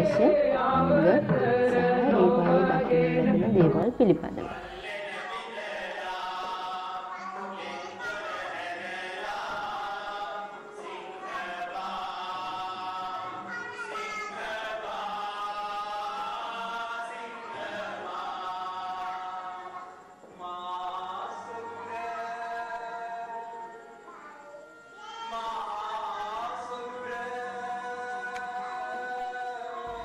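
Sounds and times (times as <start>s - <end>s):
chorus singing long held notes: 0.0s - 30.0s.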